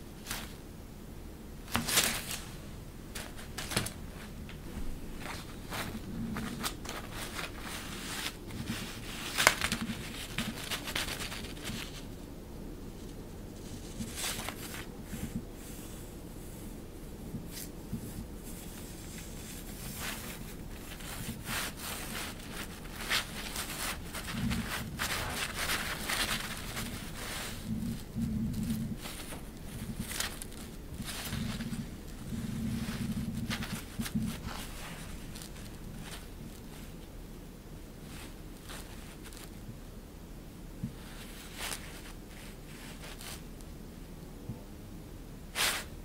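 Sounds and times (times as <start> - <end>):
synthetic fabric rustling: 1.5 - 39.7, 40.8 - 43.6.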